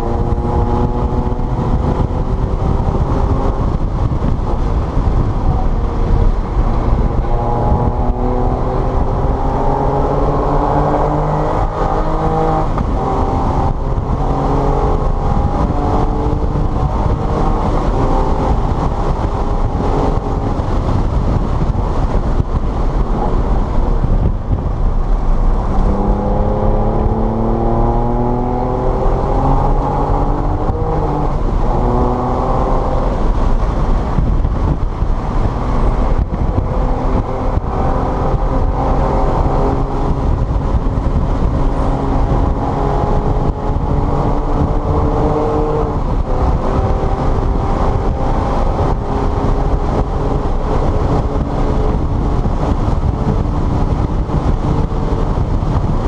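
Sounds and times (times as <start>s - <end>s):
car engine accelerating: 0.0s - 56.0s
steady rushing noise: 0.0s - 56.0s.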